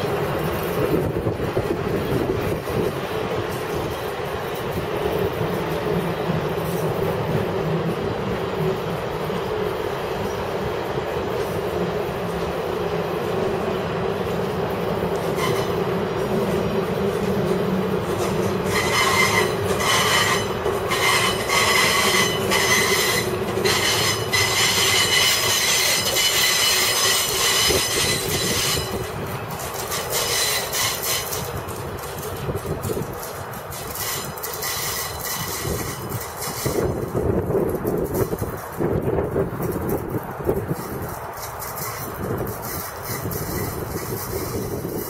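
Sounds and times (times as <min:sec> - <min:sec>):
train wheels rumbling on rails: 0:00.0 - 0:45.0
wheel flanges squealing: 0:08.6 - 0:45.0.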